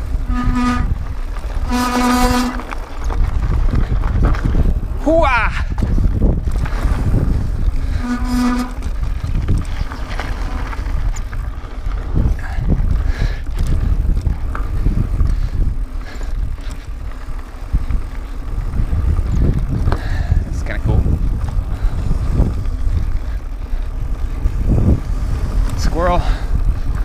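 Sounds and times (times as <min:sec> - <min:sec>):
bike clicking and rattling: 0:00.0 - 0:27.0
tyres rumbling over dirt: 0:00.0 - 0:27.0
wind buffeting microphone: 0:00.0 - 0:27.0.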